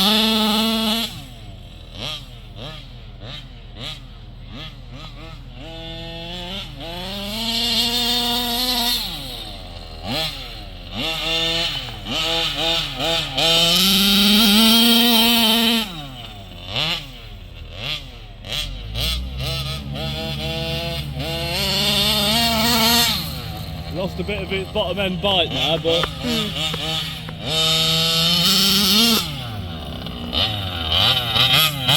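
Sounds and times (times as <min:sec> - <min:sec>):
two-stroke engine revving: 0:00.0 - 0:31.9.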